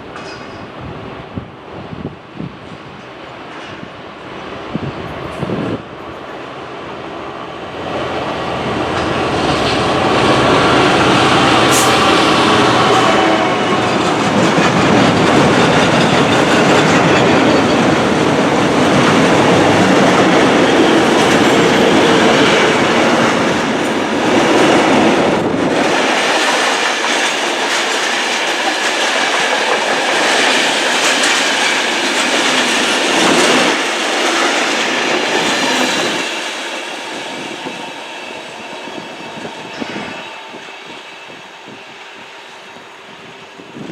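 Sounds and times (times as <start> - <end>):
train passing: 0.0 - 43.9.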